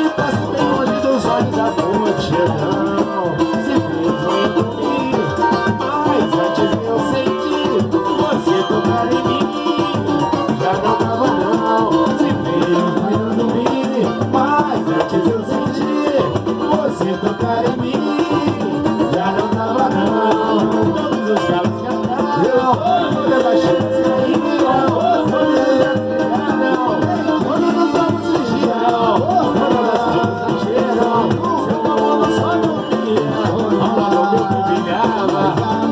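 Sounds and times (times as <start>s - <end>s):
person singing: 0.0s - 35.9s
samba band playing: 0.0s - 35.9s.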